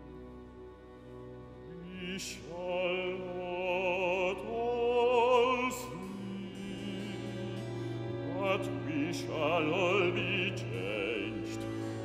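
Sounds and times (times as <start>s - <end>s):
sustained string orchestra chords: 0.0s - 12.0s
baritone singing with vibrato: 1.7s - 12.0s.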